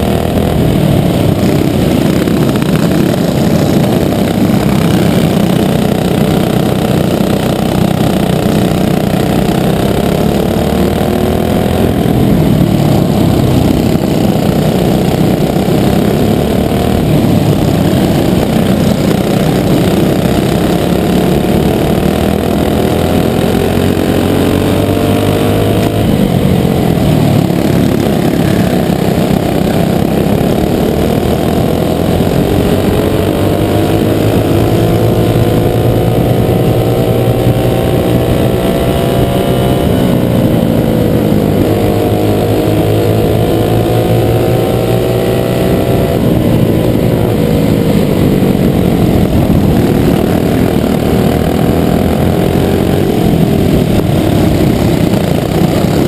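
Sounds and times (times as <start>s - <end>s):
kart engine accelerating: 0.0s - 56.0s
other kart engines nearby: 0.0s - 56.0s.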